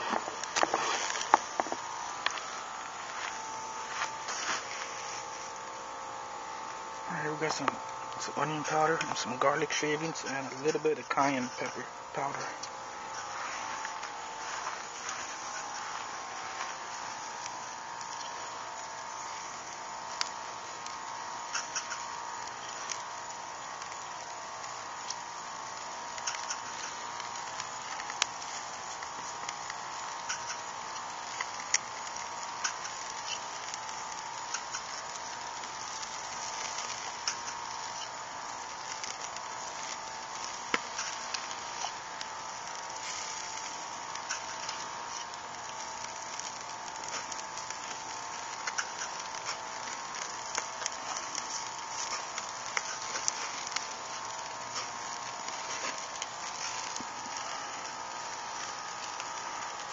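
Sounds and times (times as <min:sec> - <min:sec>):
pops and crackles: 0:00.0 - 0:09.4, 0:10.0 - 0:59.9
faint steady hum: 0:00.0 - 0:59.9
meat sizzling on grill: 0:00.0 - 0:59.9.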